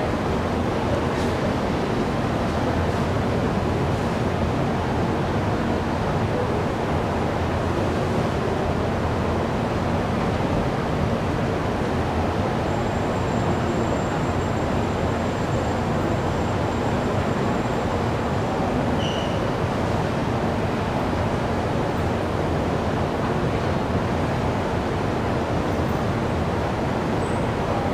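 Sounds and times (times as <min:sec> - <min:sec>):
metro platform low rumble: 0:00.0 - 0:27.9.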